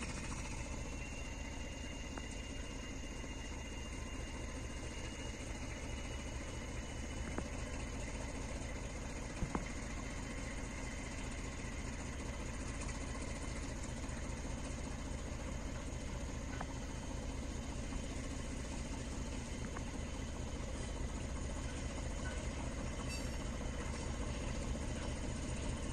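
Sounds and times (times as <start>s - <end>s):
distant diesel locomotive rumble: 0.0s - 25.9s.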